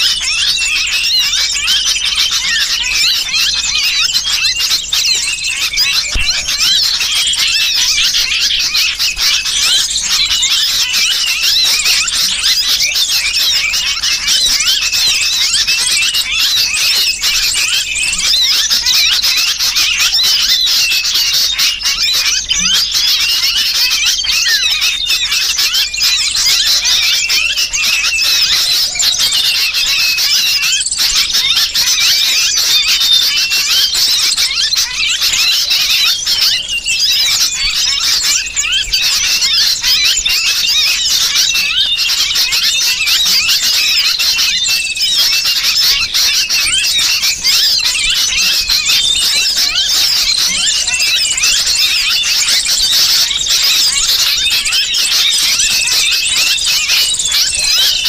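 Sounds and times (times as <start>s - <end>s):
shrill bird distress cries: 0.0s - 58.0s
squeaky small bird calls: 0.0s - 58.0s.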